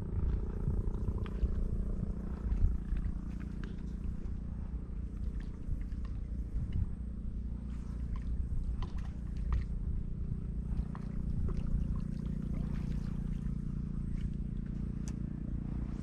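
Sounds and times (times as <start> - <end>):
motor droning: 0.0 - 16.0.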